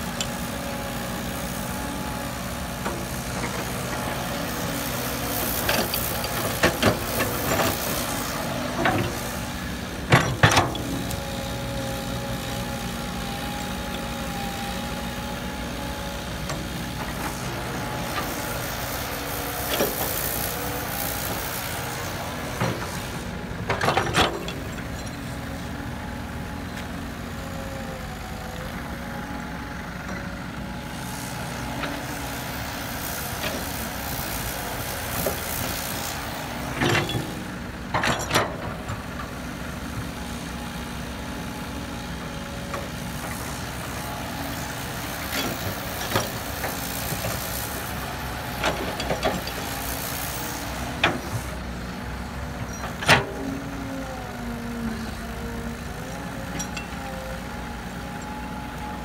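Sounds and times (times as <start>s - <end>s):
excavator engine humming: 0.0s - 59.0s.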